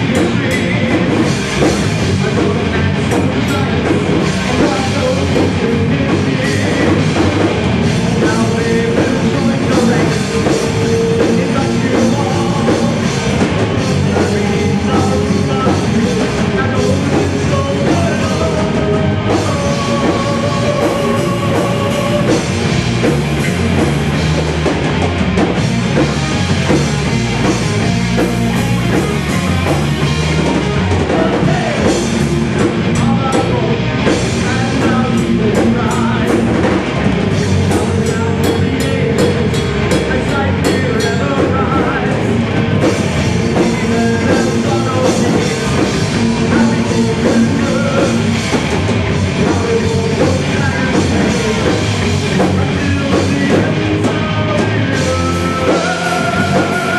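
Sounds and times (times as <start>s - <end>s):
metal band playing live: 0.0s - 56.9s.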